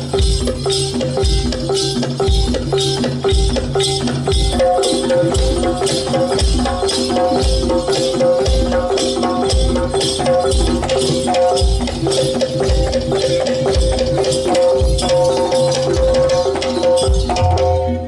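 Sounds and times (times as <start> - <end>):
hand drum and rattle percussion: 0.0 - 18.0.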